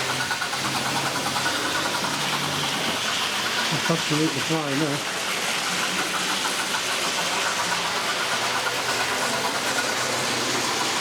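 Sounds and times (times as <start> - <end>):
model train running on track: 0.0 - 11.0
steam engine sound effect: 0.0 - 11.0.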